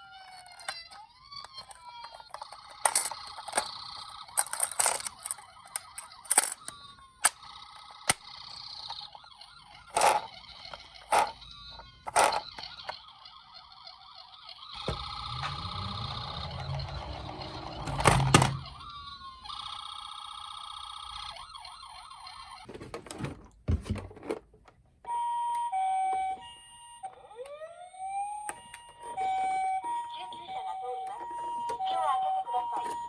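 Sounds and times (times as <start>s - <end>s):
toy siren wailing: 0.0s - 22.7s, 25.1s - 33.0s.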